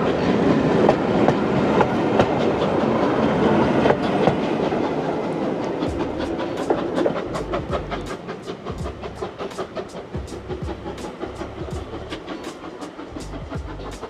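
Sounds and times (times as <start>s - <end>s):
steam train passing: 0.0s - 14.0s
train wheels clickety-clack: 0.0s - 14.0s.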